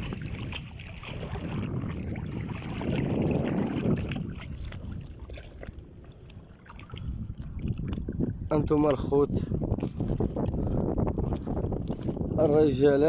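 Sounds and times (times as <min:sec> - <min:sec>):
water noise: 0:00.0 - 0:13.0
wind rumbling on microphone: 0:00.0 - 0:13.0.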